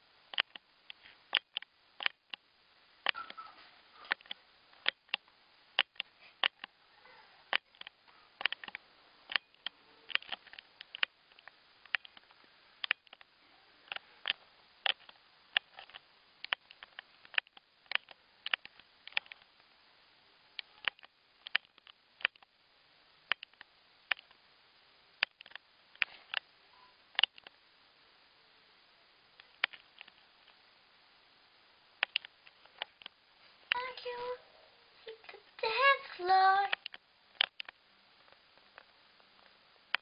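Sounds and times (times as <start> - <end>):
faint hiss: 0.0 - 40.0.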